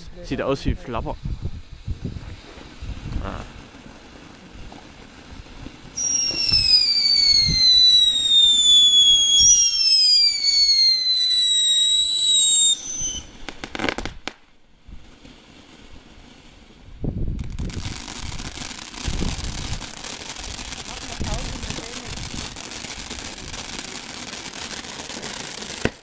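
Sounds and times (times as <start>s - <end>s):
firework fountain hissing: 0.0s - 26.0s
firework crackling bangs: 1.0s - 26.0s
whistling fireworks: 1.2s - 26.0s.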